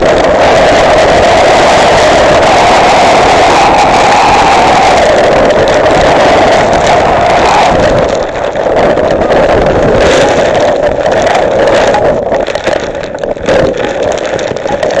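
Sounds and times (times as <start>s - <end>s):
heavy rain: 0.0s - 15.0s
strong wind: 0.0s - 15.0s
wind rumbling on microphone: 0.0s - 15.0s.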